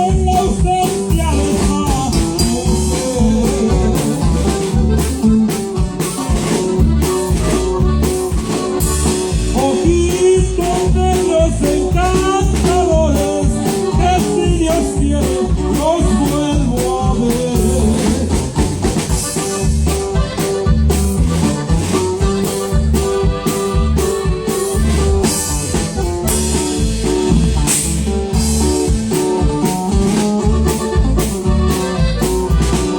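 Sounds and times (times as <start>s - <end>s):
band playing a song: 0.0s - 32.9s.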